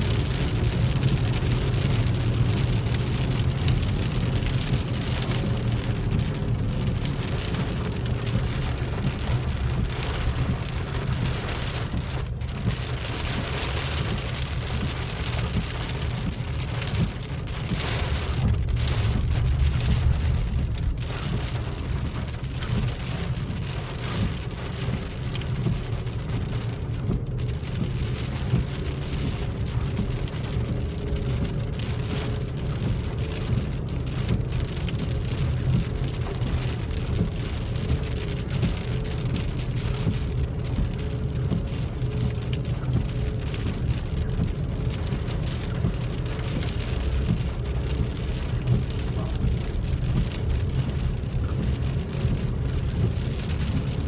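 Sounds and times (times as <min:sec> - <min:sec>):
heavy rain on car roof: 0:00.0 - 0:54.0
moving car rumble: 0:00.0 - 0:54.0.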